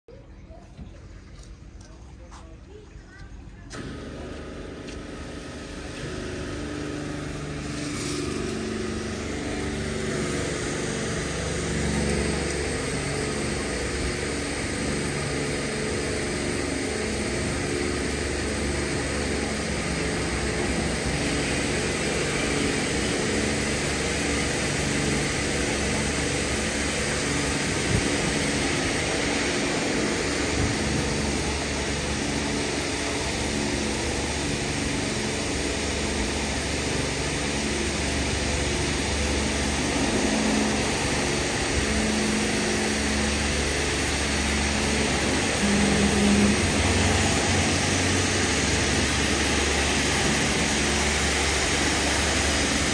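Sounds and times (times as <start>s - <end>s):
machine hum: 3.4s - 52.9s
water jets spraying: 3.7s - 52.9s.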